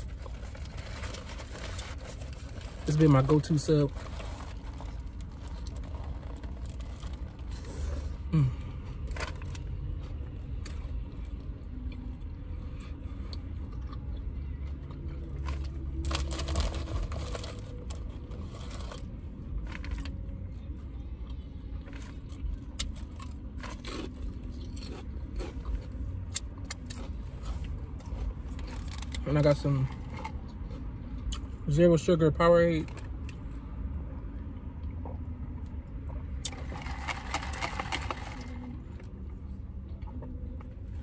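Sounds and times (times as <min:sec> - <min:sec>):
chewing and crunching chips: 0:00.0 - 0:31.6, 0:34.8 - 0:41.0.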